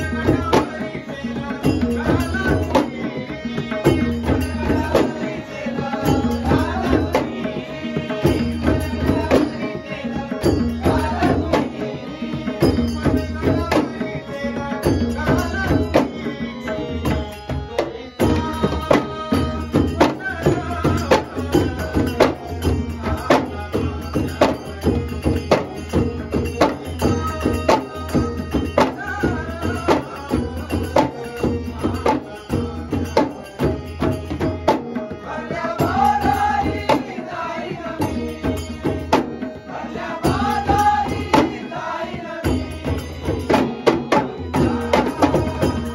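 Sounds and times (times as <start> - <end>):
harmonium: 0.0 - 45.9
men singing: 0.0 - 45.9.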